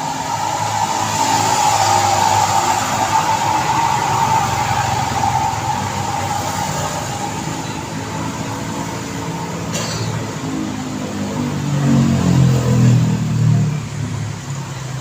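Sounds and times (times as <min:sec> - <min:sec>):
road traffic: 0:00.0 - 0:15.0
vehicle engine: 0:00.0 - 0:15.0.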